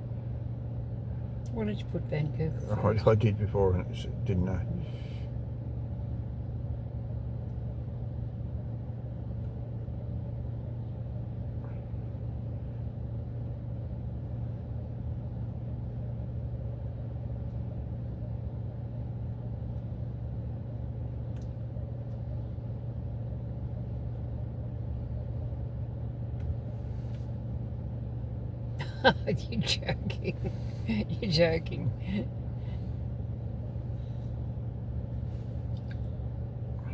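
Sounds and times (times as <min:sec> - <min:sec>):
low rumble inside car: 0:00.0 - 0:36.9.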